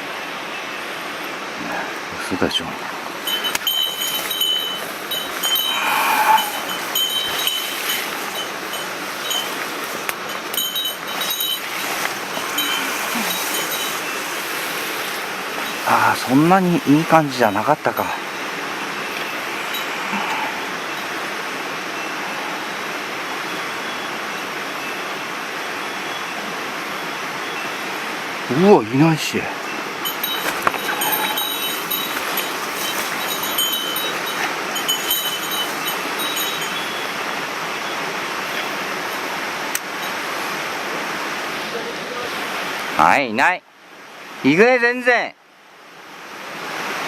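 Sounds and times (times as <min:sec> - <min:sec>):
mountain stream rushing: 0:00.0 - 0:47.0.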